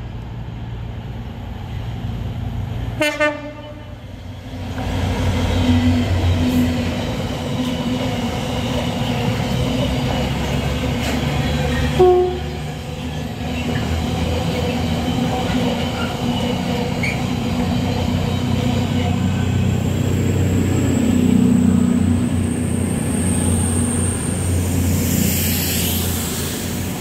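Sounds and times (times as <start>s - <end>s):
diesel locomotive engine droning: 0.0s - 27.0s.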